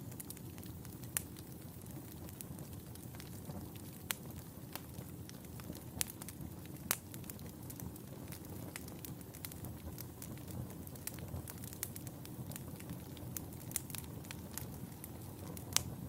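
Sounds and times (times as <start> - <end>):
fire crackles and pops: 0.0 - 16.0
wood fire burning: 0.0 - 16.0.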